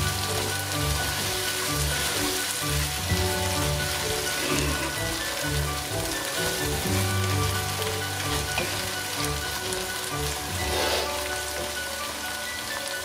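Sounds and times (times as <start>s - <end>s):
background music: 0.0s - 13.0s
onions sizzling in hot oil: 0.0s - 13.0s.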